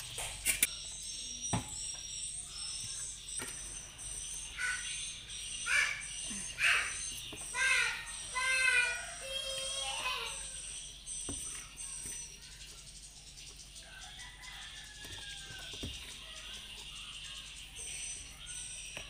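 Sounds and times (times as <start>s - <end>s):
high-pitched calls: 0.6s - 19.0s.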